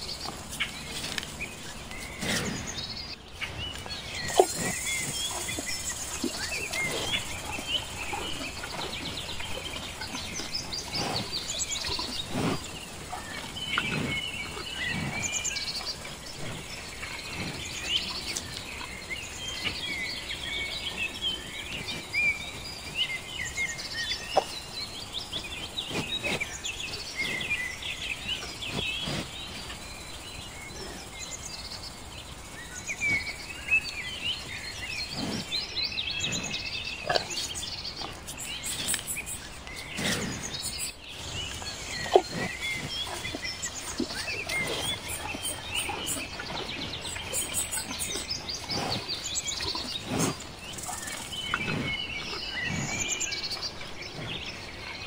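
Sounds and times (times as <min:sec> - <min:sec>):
birds calling in chorus: 0:00.0 - 0:55.0.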